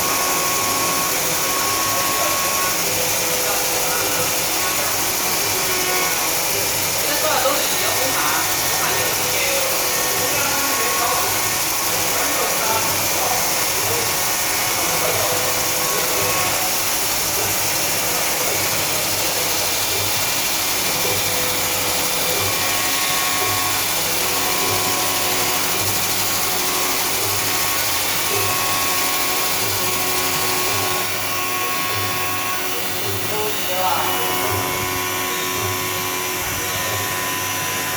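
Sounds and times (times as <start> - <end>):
machining center hiss and whine: 0.0 - 37.9.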